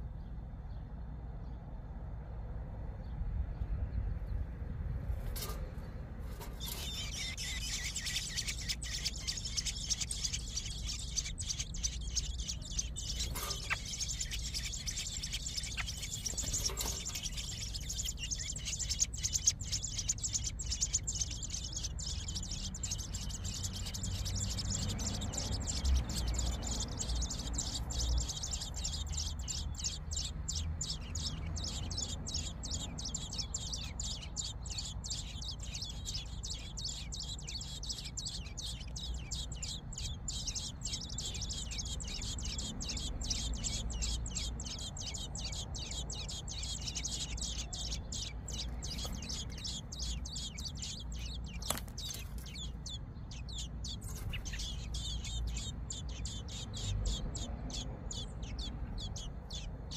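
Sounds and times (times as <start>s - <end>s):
nestlings begging chirps: 5.2s - 59.9s.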